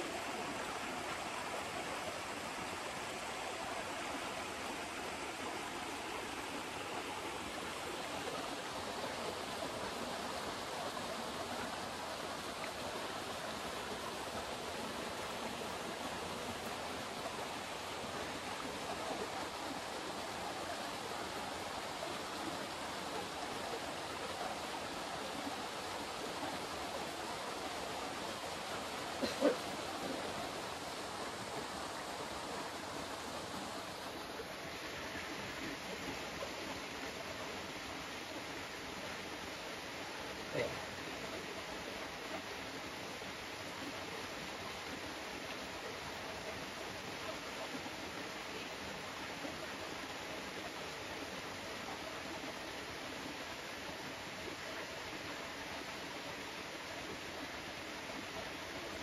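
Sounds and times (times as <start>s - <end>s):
small stream flowing: 0.0s - 59.0s.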